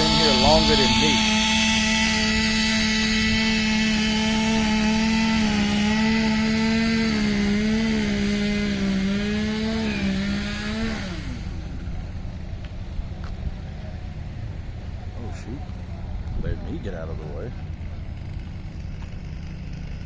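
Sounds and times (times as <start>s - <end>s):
chainsaw running at high revs: 0.0s - 12.4s, 15.2s - 20.0s.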